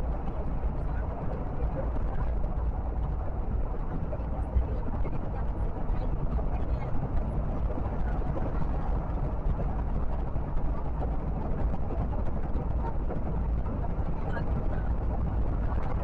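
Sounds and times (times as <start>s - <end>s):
road and wind noise: 0.0s - 16.0s
vehicle cruising on highway: 0.0s - 16.0s.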